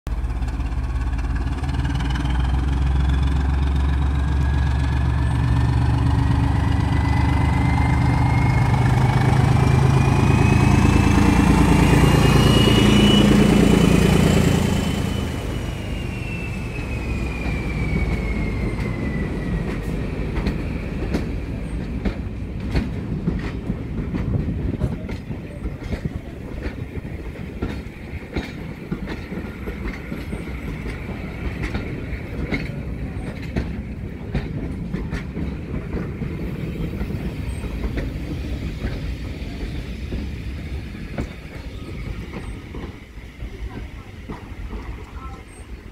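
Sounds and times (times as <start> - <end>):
diesel locomotive passing: 0.1 - 45.9
train wheels clicking over rail joints: 0.1 - 45.9.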